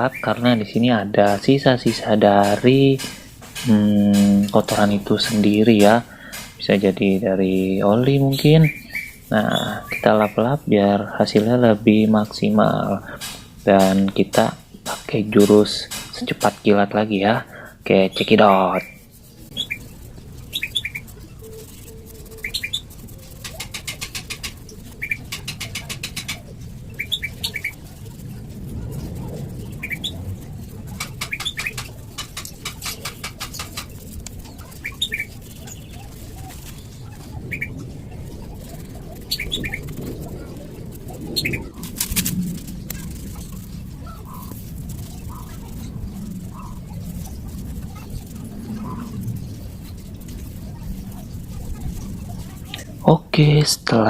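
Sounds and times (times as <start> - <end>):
rapid rubbing strokes on metal: 0.0 - 54.0.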